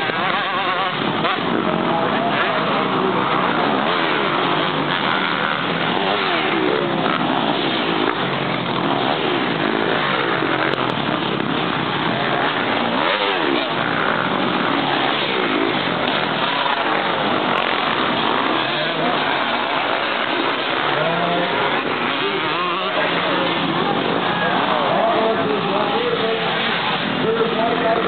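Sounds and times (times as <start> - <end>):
motocross motorcycles revving: 0.0 - 28.0.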